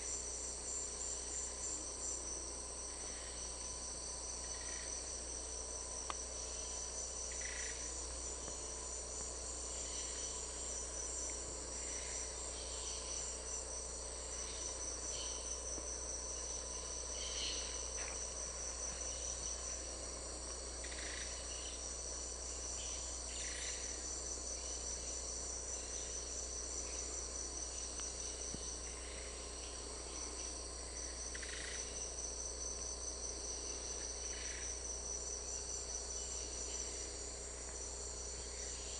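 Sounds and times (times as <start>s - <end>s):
insect chorus pulsing trill: 0.0s - 38.9s.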